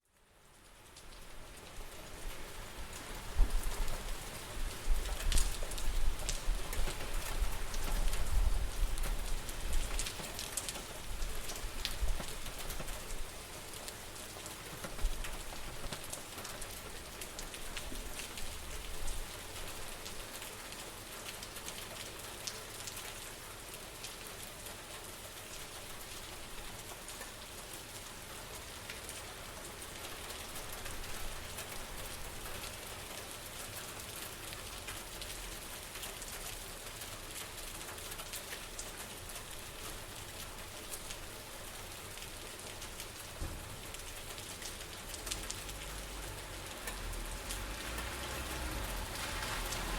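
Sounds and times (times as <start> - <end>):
rain on hard surfaces: 0.0 - 49.9.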